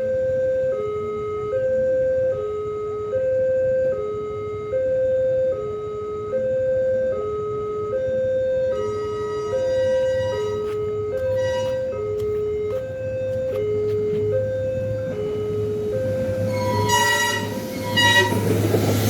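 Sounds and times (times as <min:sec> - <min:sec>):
two-tone level crossing alarm: 0:00.0 - 0:19.0.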